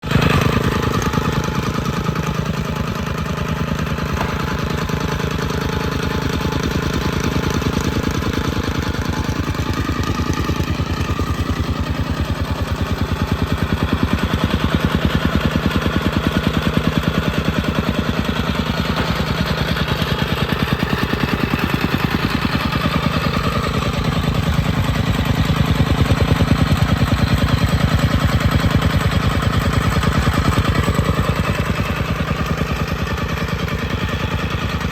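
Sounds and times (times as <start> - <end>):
compactor engine running: 0.0 - 34.9.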